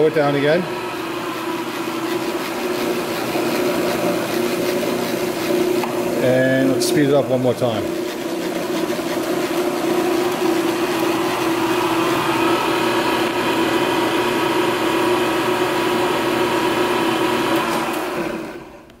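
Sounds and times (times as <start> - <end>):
mixer motor hum and whine: 0.0 - 19.0.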